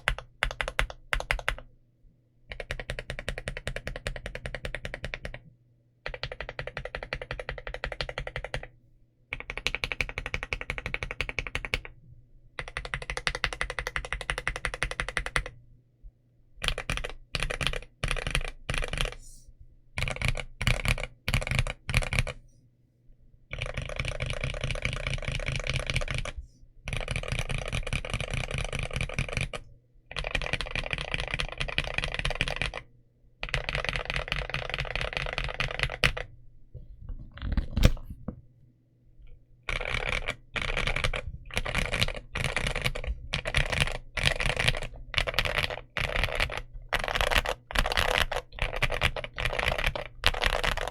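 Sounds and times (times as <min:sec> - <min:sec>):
mechanical keyboard typing: 0:00.0 - 0:01.7, 0:02.5 - 0:05.4, 0:06.0 - 0:08.7, 0:09.3 - 0:12.0, 0:12.6 - 0:15.6, 0:16.6 - 0:19.2, 0:20.0 - 0:22.4, 0:23.5 - 0:36.3, 0:39.7 - 0:50.9.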